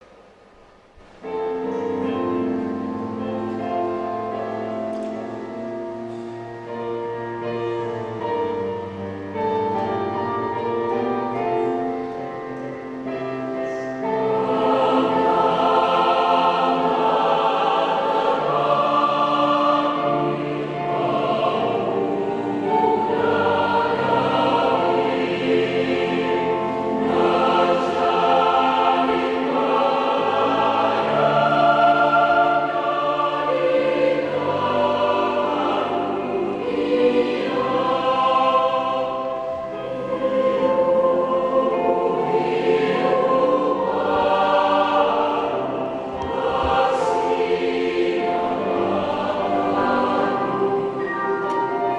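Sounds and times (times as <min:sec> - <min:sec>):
choir singing a hymn: 0:01.2 - 0:51.9.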